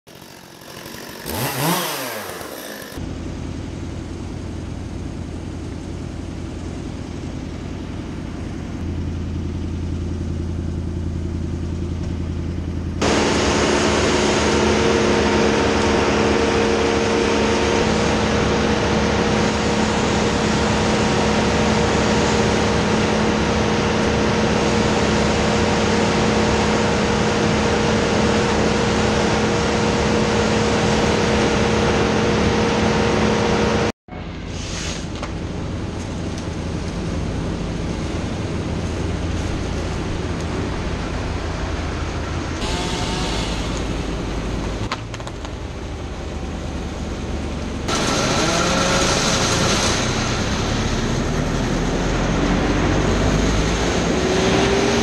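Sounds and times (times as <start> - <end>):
loud engine drone: 0.1 - 55.0
engine humming: 1.2 - 55.0.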